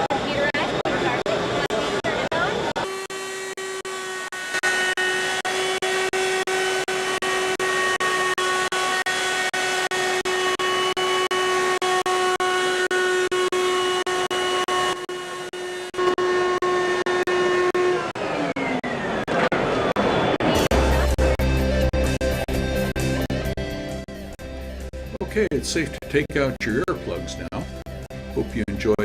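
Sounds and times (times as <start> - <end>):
loud machine whining: 0.0 - 29.0.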